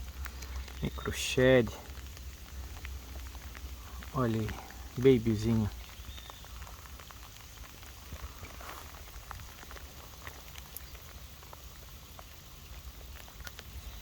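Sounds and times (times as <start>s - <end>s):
light rain falling: 0.0s - 14.0s.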